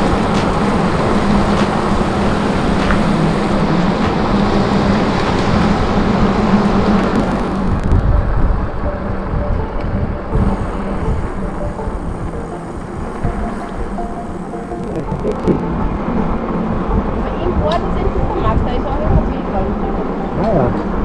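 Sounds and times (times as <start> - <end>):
bike tyre and frame rumble: 0.0 - 17.8
wind on camera microphone: 0.0 - 19.8.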